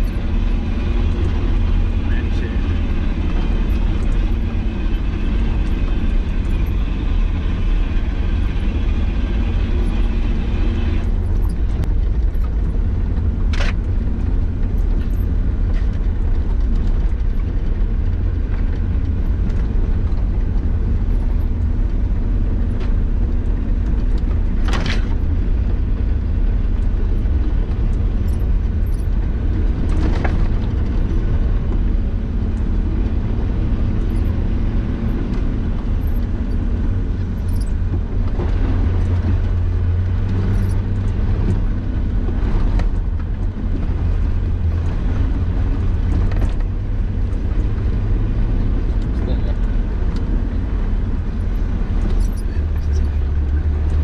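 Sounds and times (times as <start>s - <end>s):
engine and drivetrain rumble: 0.0s - 54.0s.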